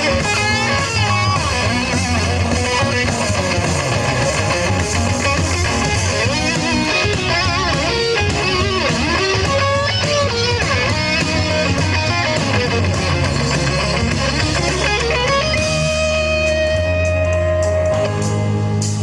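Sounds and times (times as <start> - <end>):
bass guitar: 0.0 - 19.0
drums: 0.0 - 19.0
electric guitar lead with bent notes: 0.0 - 19.0.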